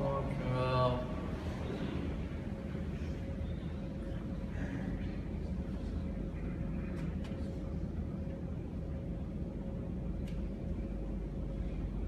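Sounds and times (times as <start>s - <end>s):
faint constant hum: 0.0s - 12.0s
hall room noise rumble: 0.0s - 12.0s.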